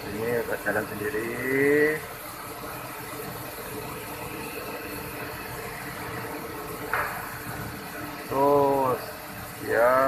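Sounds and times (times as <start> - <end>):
machine mechanical hum with whine: 0.0 - 10.0.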